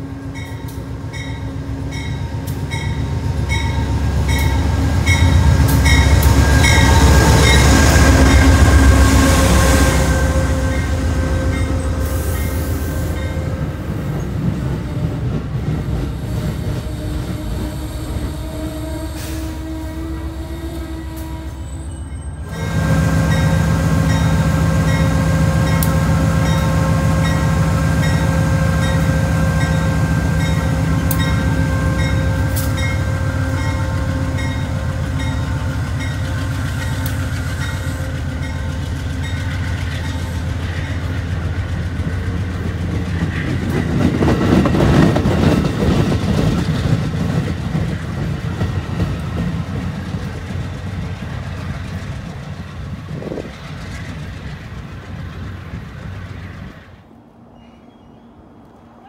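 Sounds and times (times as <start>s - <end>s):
diesel locomotive engine hum: 0.0s - 59.0s
train coaches rolling: 0.0s - 59.0s.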